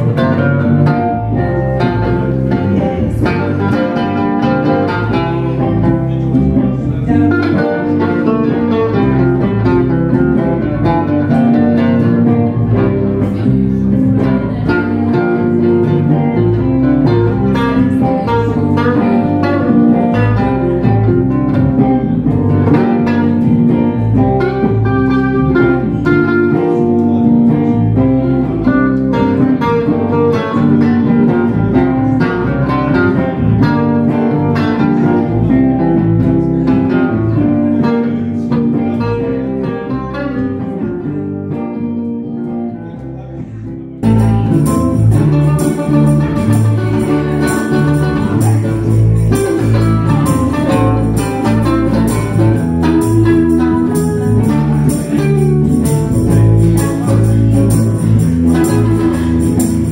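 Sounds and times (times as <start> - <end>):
blues band on guitars: 0.0 - 59.9.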